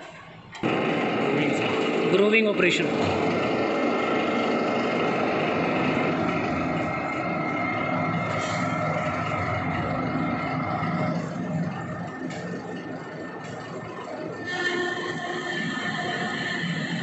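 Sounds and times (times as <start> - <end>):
metal lathe machining: 0.0 - 17.0
steady whine: 0.0 - 17.0.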